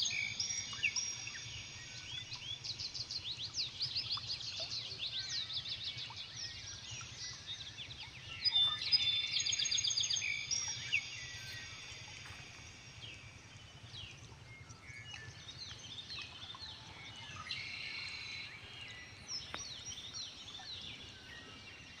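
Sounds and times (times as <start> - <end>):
birds chirping and trilling: 0.0 - 22.0.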